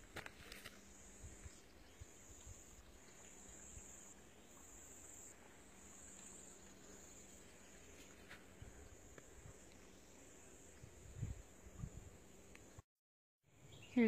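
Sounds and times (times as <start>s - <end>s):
insects buzzing trill: 0.0s - 12.8s.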